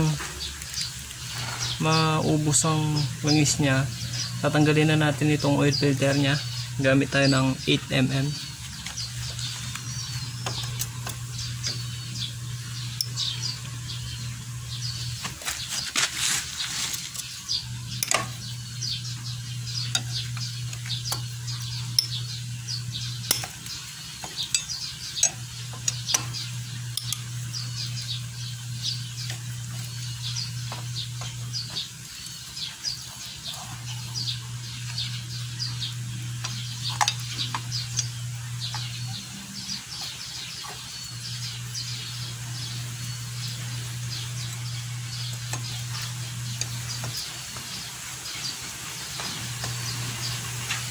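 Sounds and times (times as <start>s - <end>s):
birds chirping: 0.0s - 50.9s
low steady hum: 0.0s - 50.9s.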